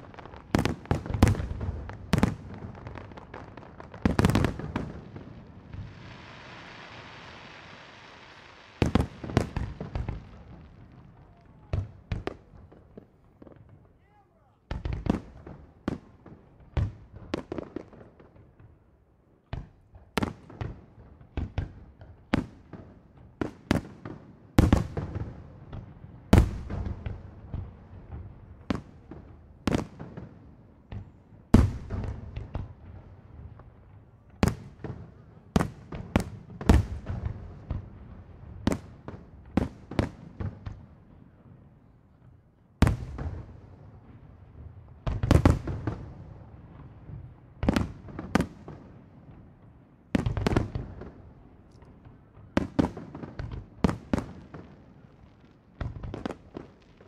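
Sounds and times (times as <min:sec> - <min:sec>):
fireworks bursting with bangs: 0:00.0 - 0:18.8, 0:19.4 - 0:41.9, 0:42.8 - 0:57.0.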